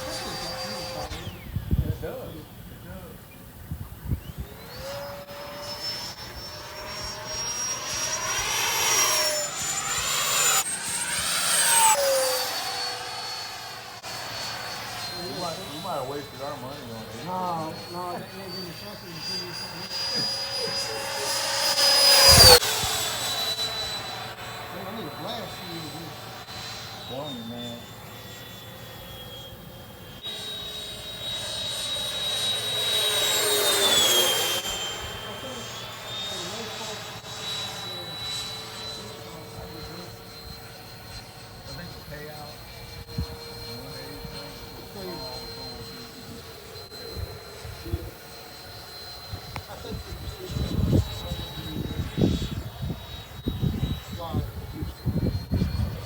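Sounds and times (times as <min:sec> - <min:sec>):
electric ducted fan whine: 0:00.0 - 0:56.0
model jet passing by: 0:00.0 - 0:56.0.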